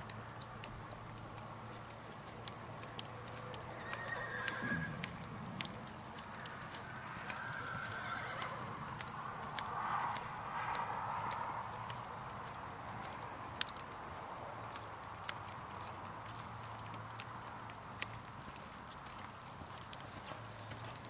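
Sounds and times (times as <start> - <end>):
horse hoofbeats on dirt: 0.0 - 21.0.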